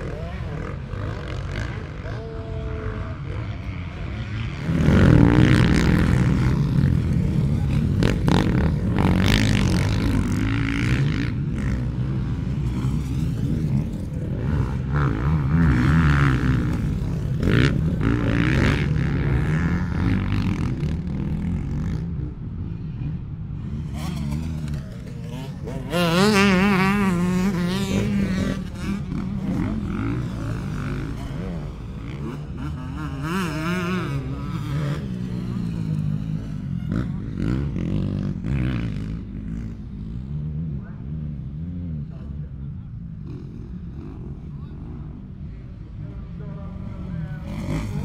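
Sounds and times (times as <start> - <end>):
motocross motorcycle engines revving: 0.0 - 48.0.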